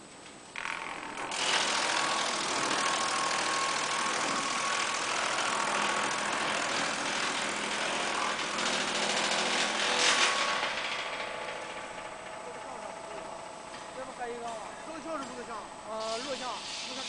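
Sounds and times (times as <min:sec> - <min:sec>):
wood chipper running: 0:00.6 - 0:17.0.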